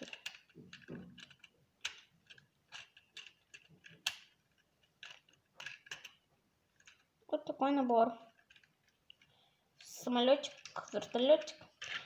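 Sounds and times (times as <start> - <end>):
plastic building bricks clicking: 0.0 - 12.0.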